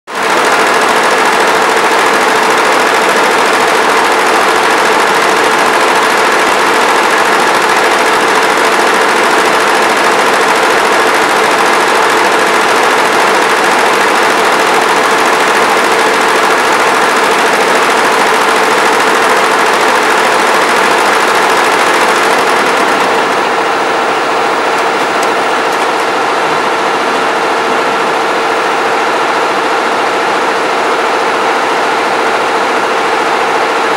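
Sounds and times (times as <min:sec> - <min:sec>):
embroidery machine stitching rattle: 0:00.1 - 0:33.9
machine hum: 0:00.2 - 0:33.9.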